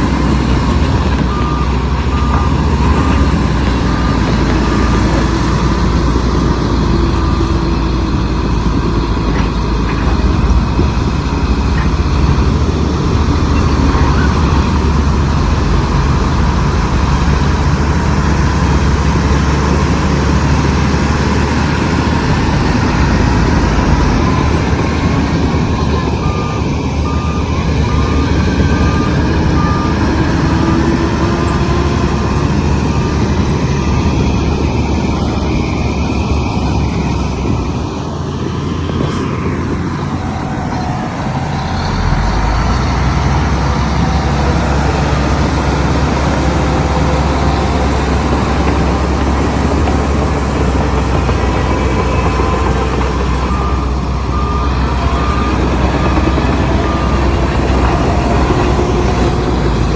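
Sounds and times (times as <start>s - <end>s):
diesel engine running under load: 0.0s - 59.9s
reversing alarm beeping: 0.4s - 59.9s.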